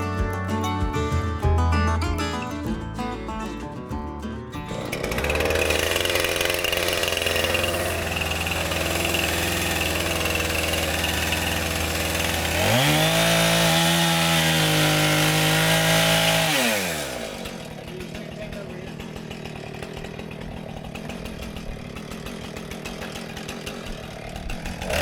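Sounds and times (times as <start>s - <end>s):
small gasoline engine revving: 4.6s - 25.0s.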